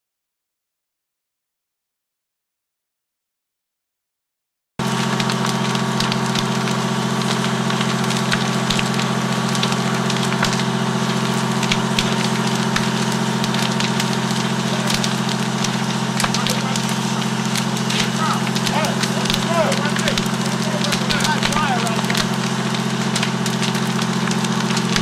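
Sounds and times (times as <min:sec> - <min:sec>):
engine idling drone: 0:04.8 - 0:25.0
fire crackling and popping: 0:04.8 - 0:25.0.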